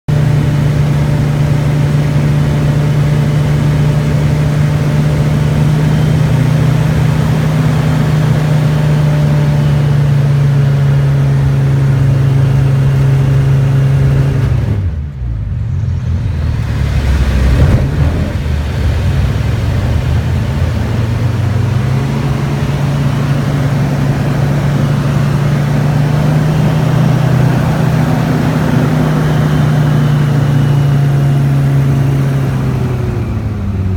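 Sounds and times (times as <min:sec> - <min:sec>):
aircraft engine droning: 0:00.1 - 0:33.9.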